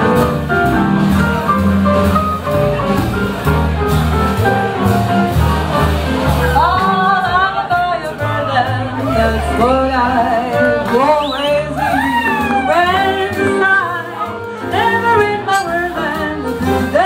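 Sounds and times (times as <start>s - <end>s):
small jazz band playing: 0.0s - 17.0s.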